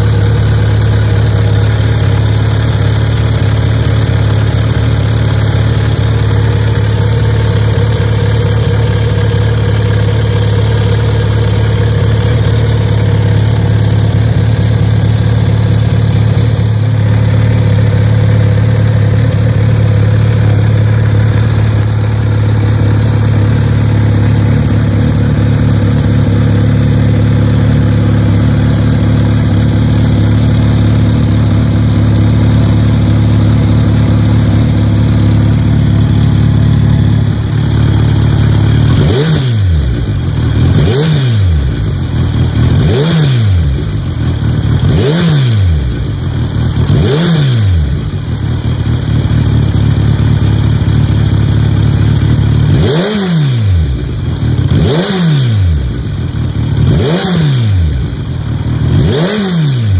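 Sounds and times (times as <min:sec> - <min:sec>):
motorcycle engine idling: 0:00.0 - 0:59.9
motorcycle engine revving: 0:00.0 - 0:59.9.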